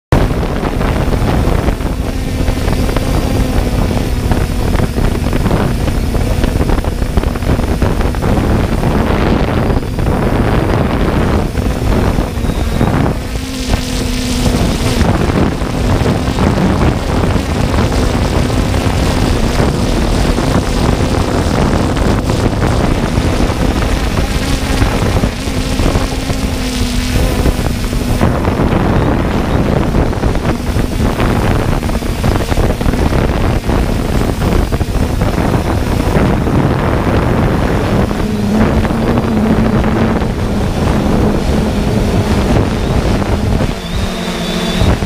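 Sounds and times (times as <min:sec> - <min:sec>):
drone propellers whirring: 0:00.1 - 0:45.0
wind buffeting microphone: 0:00.1 - 0:45.0.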